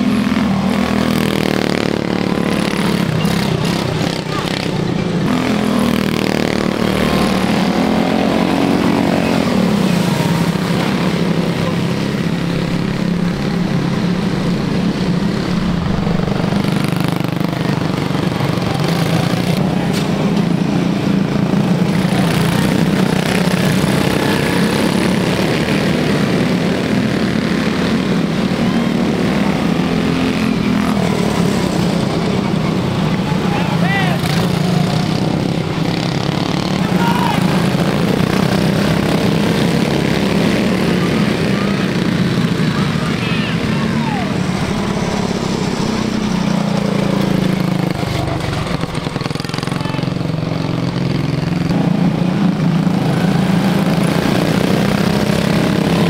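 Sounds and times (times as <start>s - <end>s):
small car engines droning: 0.0s - 56.0s.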